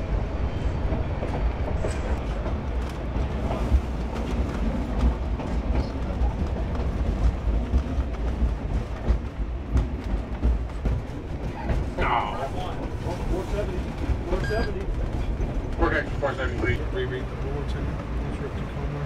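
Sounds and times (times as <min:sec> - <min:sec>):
train rumbling with clanks: 0:00.0 - 0:19.0.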